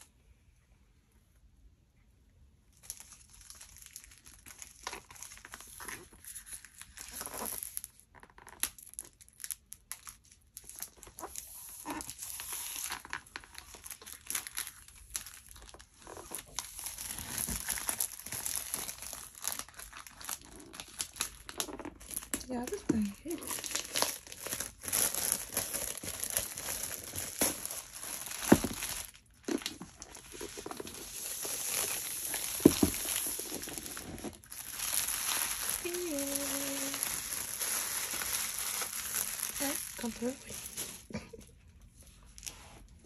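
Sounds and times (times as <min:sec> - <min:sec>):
plastic shrink-wrap crinkling and tearing: 0:02.7 - 0:42.9.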